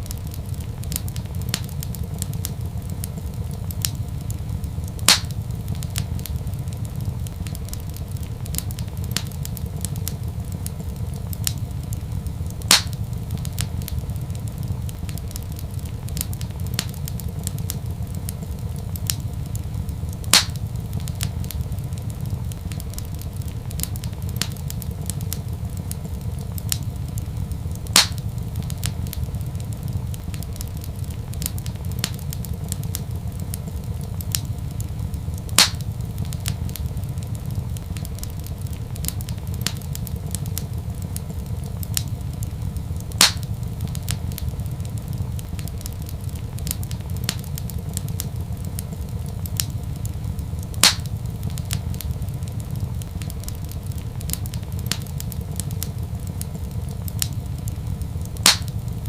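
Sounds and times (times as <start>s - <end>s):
loud fire pops: 0.0s - 59.0s
low steady rumble: 0.0s - 59.0s
wood fire crackling: 0.0s - 59.0s.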